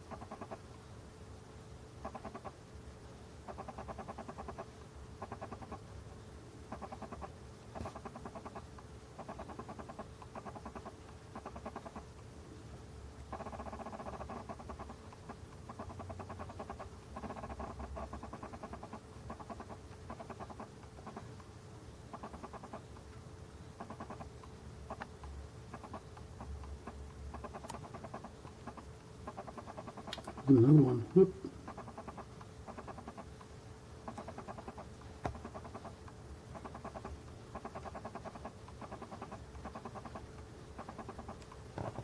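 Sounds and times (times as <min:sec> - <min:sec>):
small animal chattering: 0:00.0 - 0:00.7, 0:02.0 - 0:02.6, 0:03.4 - 0:05.8, 0:06.7 - 0:12.2, 0:13.3 - 0:23.1, 0:23.7 - 0:42.0.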